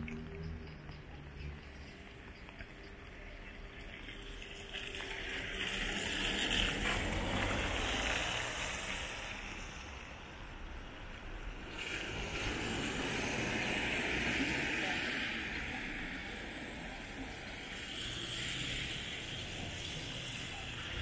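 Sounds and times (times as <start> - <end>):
car tyres hissing on wet road: 3.7 - 21.0.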